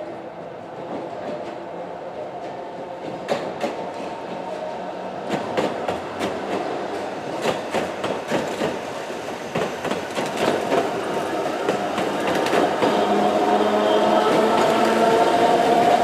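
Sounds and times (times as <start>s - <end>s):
steady train whine: 0.0s - 16.0s.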